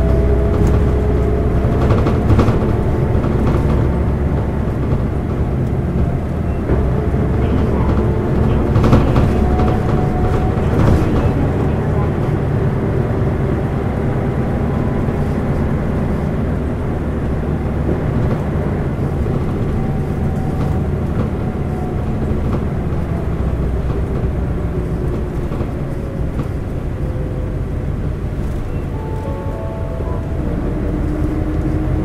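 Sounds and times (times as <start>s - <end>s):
bus engine drone: 0.0s - 32.0s
road rumble: 0.0s - 32.0s.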